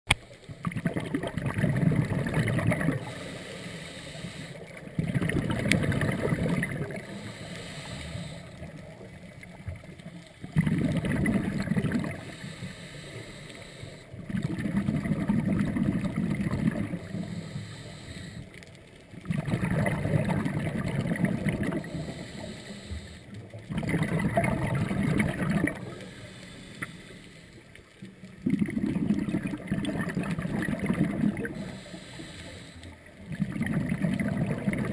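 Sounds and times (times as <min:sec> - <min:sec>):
regulator exhaust bubbles underwater: 0:00.1 - 0:03.3, 0:04.6 - 0:12.5, 0:14.1 - 0:17.6, 0:19.0 - 0:27.0, 0:28.0 - 0:32.1, 0:32.9 - 0:34.9.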